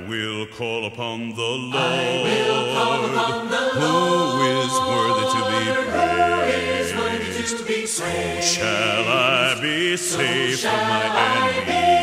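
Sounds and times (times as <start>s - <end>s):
worship song with voices singing: 0.0s - 12.0s.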